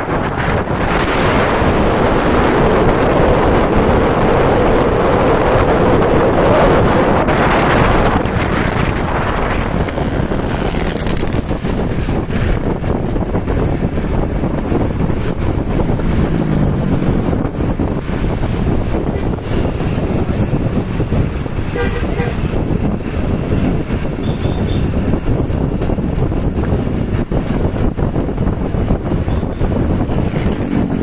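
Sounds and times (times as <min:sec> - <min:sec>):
bus with loud exhaust: 0:00.0 - 0:31.0
wind noise on microphone: 0:00.0 - 0:31.0.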